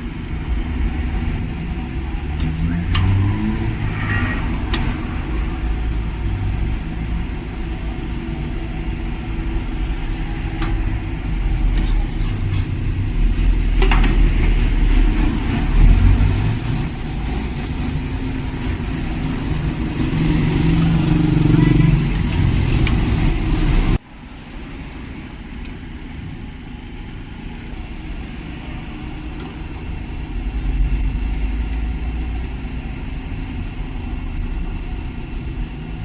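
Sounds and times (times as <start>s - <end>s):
low motor rumble: 0.0s - 36.0s.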